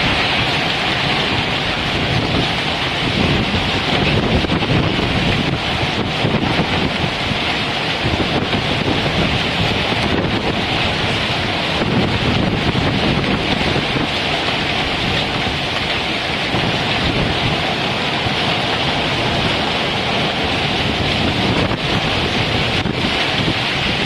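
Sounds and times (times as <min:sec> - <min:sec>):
hail and heavy rain pelting: 0:00.0 - 0:24.0
wind: 0:00.0 - 0:24.0.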